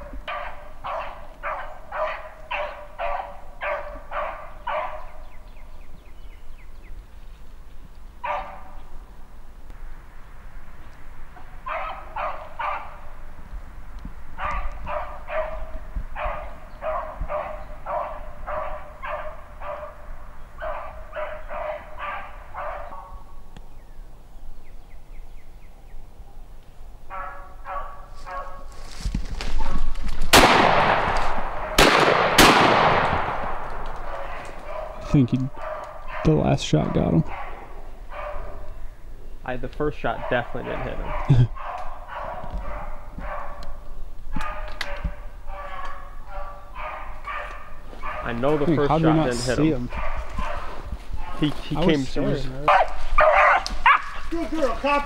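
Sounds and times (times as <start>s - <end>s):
beagles baying: 0.0s - 9.4s, 10.8s - 13.4s, 14.2s - 23.5s, 25.2s - 28.7s, 29.6s - 55.0s.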